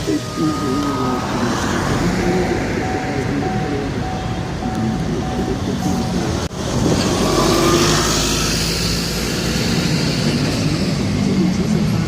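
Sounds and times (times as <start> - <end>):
passing traffic rush: 0.0 - 12.0.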